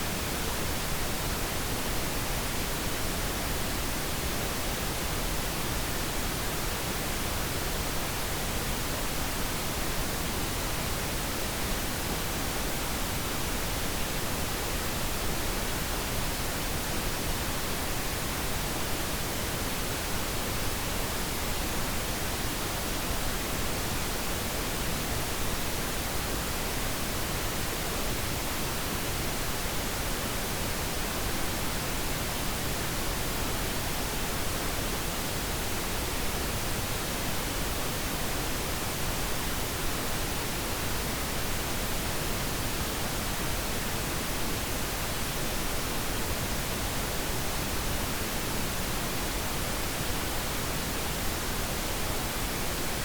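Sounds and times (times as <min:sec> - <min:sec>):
steady pink noise hiss: 0:00.0 - 0:53.0.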